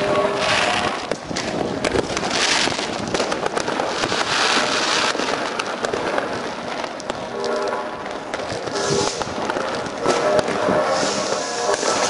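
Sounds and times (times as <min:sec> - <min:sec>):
firecracker bangs: 0:00.0 - 0:12.0
fireworks crackling: 0:00.0 - 0:12.0.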